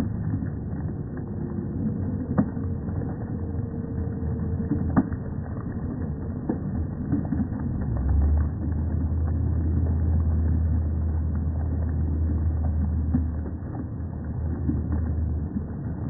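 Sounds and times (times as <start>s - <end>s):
slowed crowd noise rumble: 0.0s - 16.0s.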